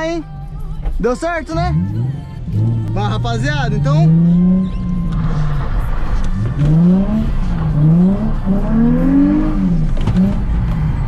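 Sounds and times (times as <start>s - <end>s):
car engine revving: 0.6s - 11.0s.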